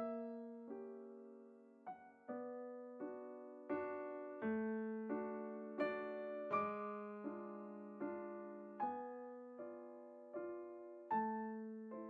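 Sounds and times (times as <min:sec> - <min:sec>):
slow solo piano melody: 0:00.0 - 0:12.0.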